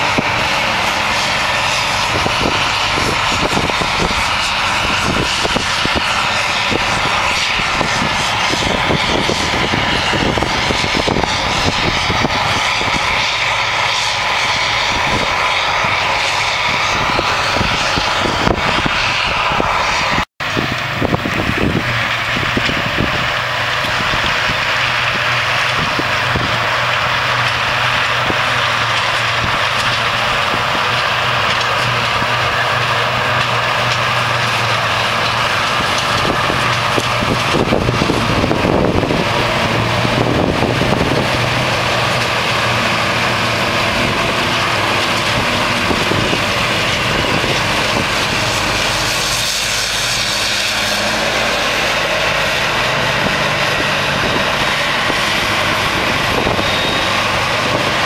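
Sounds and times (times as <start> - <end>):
forage harvester engine drone: 0.0 - 58.0
tractor engine running: 0.0 - 58.0.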